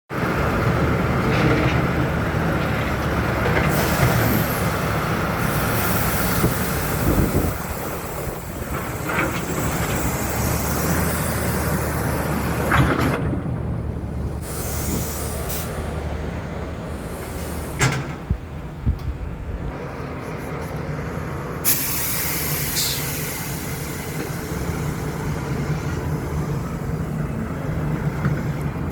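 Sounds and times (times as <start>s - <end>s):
diesel truck engine running: 0.1s - 28.9s.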